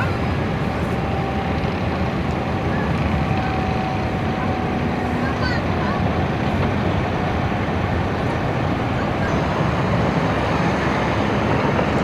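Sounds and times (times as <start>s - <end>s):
faint jet whine: 0.0s - 12.0s
jet aircraft rumble: 0.0s - 12.0s.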